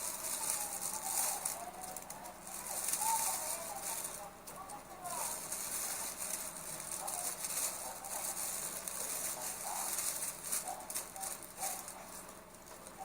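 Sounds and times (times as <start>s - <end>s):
burning newspaper crackling: 0.0s - 13.0s.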